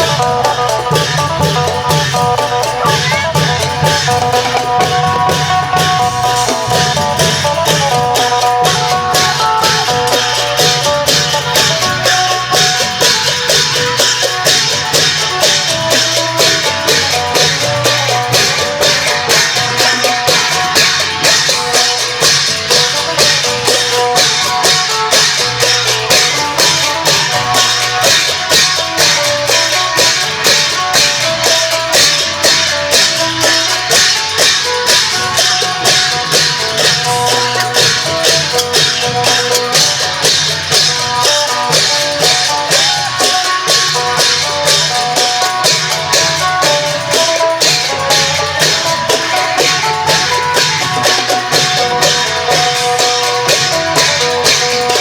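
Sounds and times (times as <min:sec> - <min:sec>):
steady drum beat: 0:00.0 - 0:55.0.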